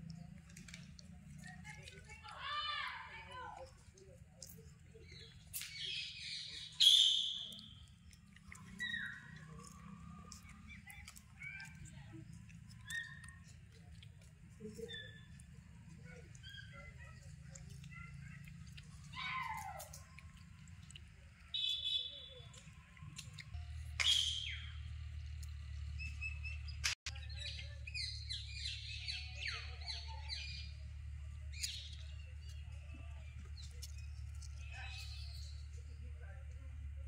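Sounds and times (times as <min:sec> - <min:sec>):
birds calling: 0:04.4 - 0:36.0.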